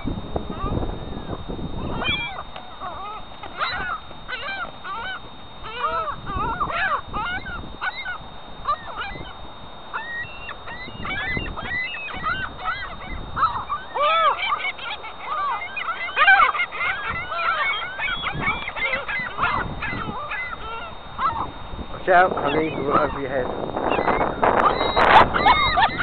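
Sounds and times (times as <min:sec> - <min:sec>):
flock of gulls calling: 0:00.0 - 0:26.0.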